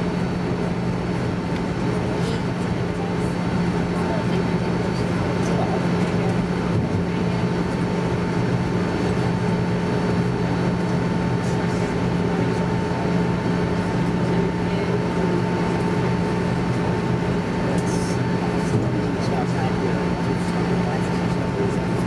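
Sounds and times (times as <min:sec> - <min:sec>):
jet engines idling: 0:00.0 - 0:22.0.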